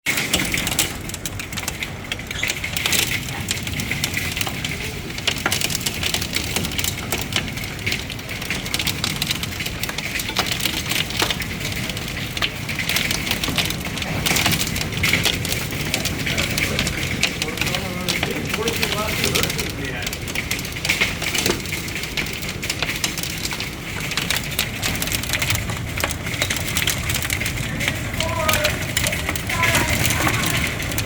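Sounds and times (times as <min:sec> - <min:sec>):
hailstones clattering: 0:00.0 - 0:31.0.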